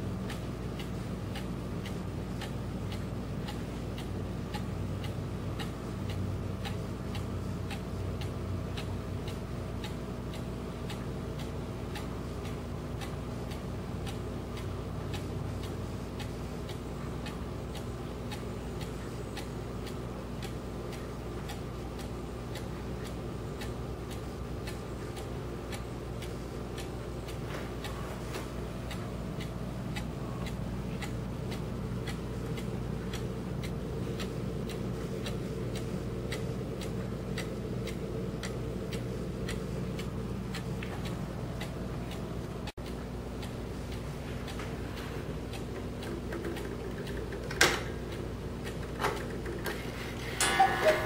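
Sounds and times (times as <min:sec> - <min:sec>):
clock ticking: 0:00.0 - 0:51.0
low steady hum: 0:00.0 - 0:51.0.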